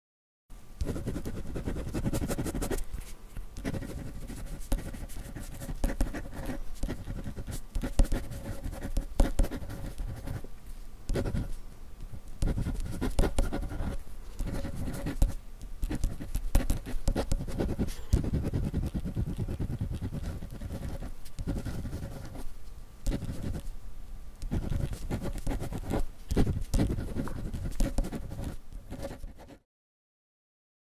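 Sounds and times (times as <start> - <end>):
pen scratching on paper: 0.8 - 2.8, 3.6 - 10.5, 11.1 - 11.6, 12.2 - 23.7, 24.4 - 29.6.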